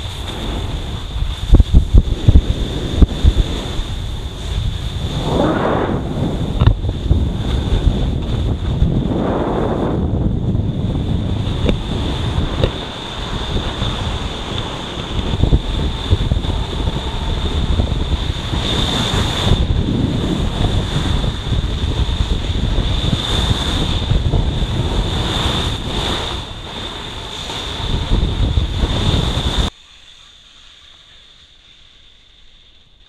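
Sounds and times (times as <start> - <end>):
wind buffeting microphone: 0.0 - 29.7.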